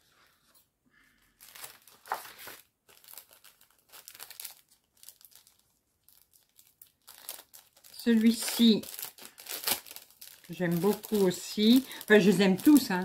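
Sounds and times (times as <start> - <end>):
plastic packaging crinkling: 1.3 - 13.0.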